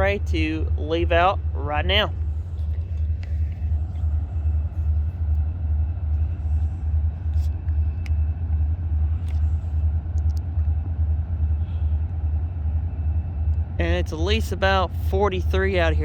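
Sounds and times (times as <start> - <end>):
diesel locomotives idling: 0.0 - 16.0.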